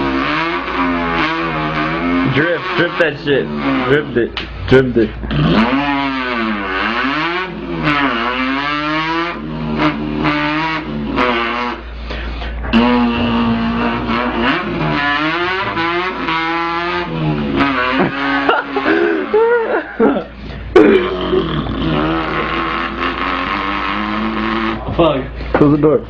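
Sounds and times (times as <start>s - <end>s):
person imitating car engine: 0.0s - 25.1s.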